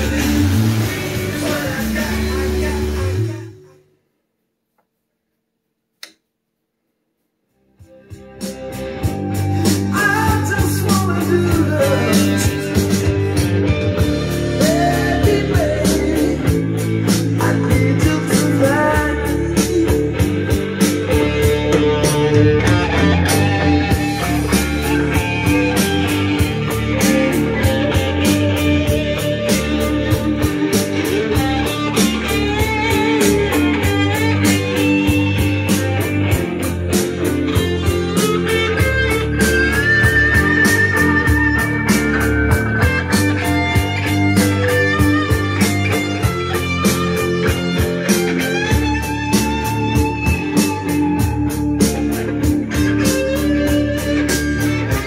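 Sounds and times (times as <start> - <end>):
rock music with guitar and drums: 0.0 - 3.5, 7.8 - 55.0.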